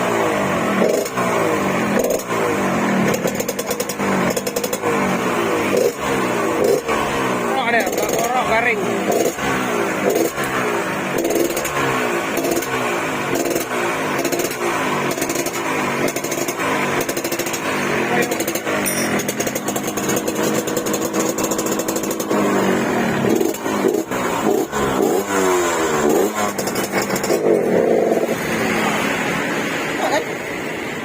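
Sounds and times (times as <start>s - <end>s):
two-stroke motorcycle engine revving: 0.0s - 31.0s.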